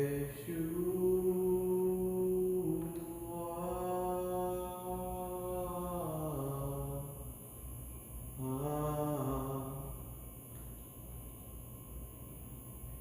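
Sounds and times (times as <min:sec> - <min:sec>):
slow worship chant: 0:00.0 - 0:10.8.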